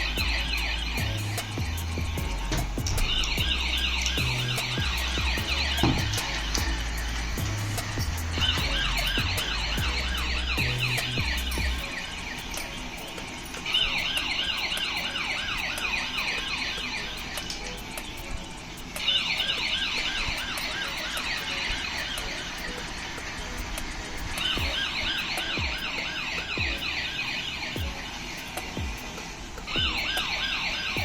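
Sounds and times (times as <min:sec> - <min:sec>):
toy car electronic siren warbling: 0:00.0 - 0:31.0.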